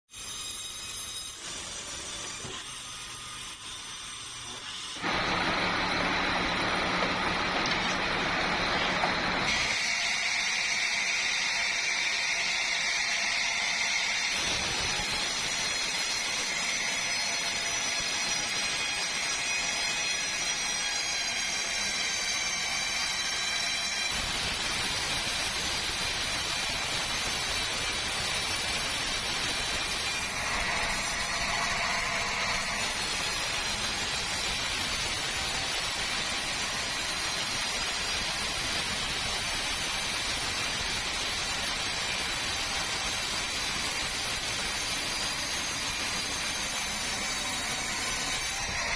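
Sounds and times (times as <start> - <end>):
sawmill sawing through log: 0.1 - 48.9.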